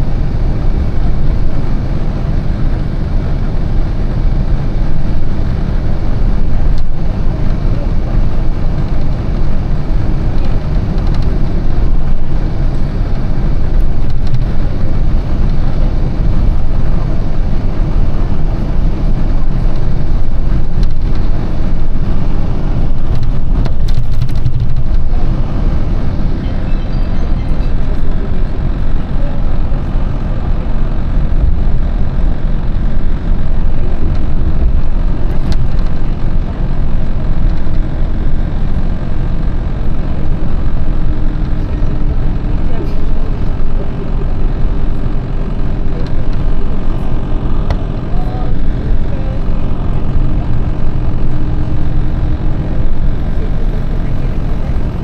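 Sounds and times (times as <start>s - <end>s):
bus engine rumble: 0.0s - 55.0s
road noise: 0.0s - 55.0s.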